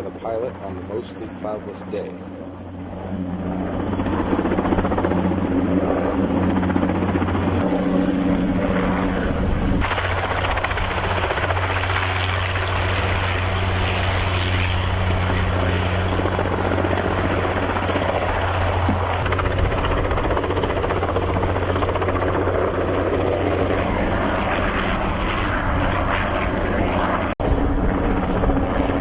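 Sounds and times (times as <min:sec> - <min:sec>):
helicopter rotor and engine drone: 0:00.0 - 0:29.0.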